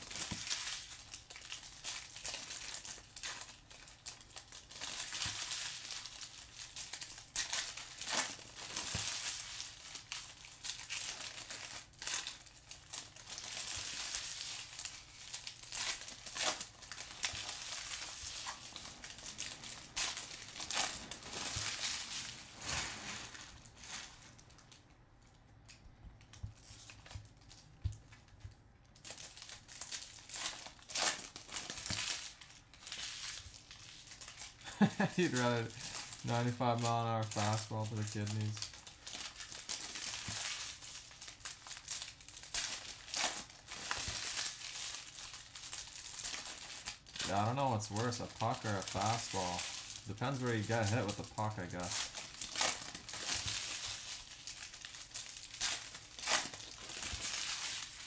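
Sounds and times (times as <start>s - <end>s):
foil wrappers tearing and crinkling: 0.0s - 24.8s, 25.7s - 58.0s.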